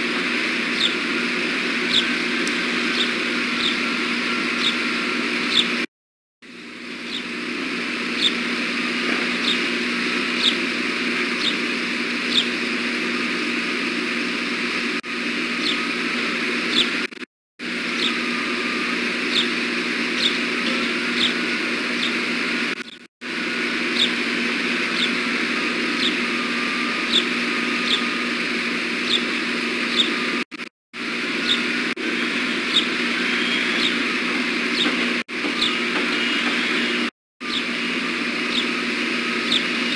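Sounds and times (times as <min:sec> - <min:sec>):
machinery hum: 0:00.0 - 0:39.9.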